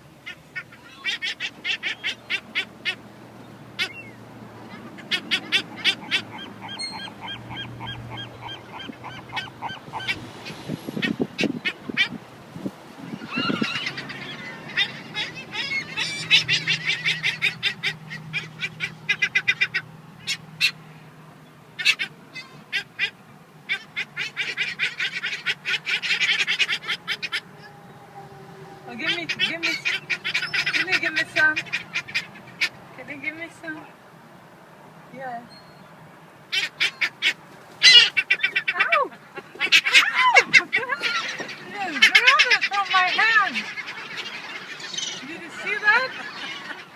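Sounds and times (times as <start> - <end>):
seagulls calling: 0.0 - 34.0, 35.2 - 46.9.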